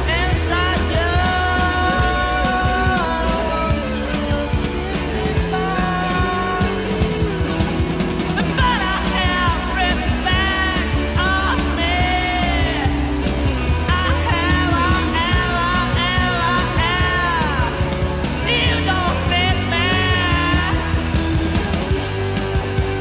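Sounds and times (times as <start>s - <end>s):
rock band playing: 0.0s - 23.0s.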